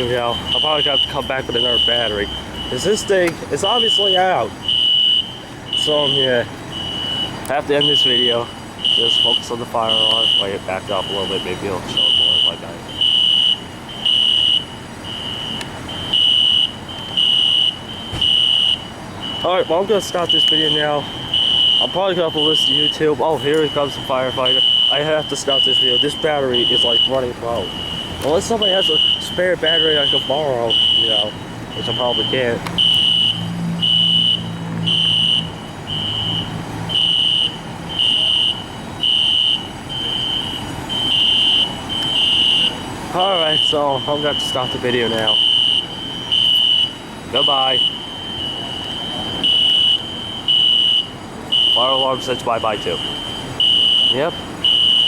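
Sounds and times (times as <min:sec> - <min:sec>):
faint alarm tone: 0:00.0 - 0:55.0
fire alarm beeping: 0:00.0 - 0:55.0.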